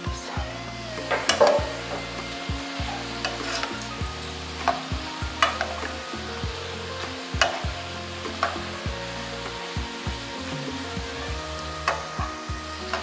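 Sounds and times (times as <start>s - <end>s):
dough sizzling in hot oil: 0.8s - 13.0s.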